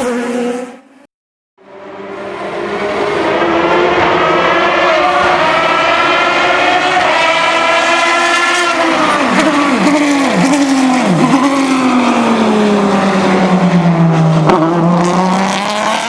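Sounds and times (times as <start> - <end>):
race car engine at high revs: 0.0 - 1.0, 1.6 - 16.0.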